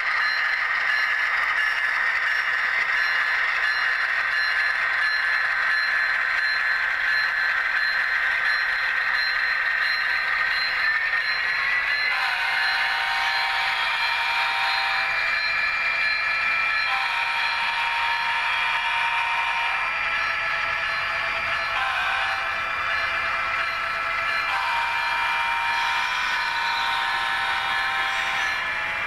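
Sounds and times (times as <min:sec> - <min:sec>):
model train mechanical hum: 0:00.0 - 0:29.0.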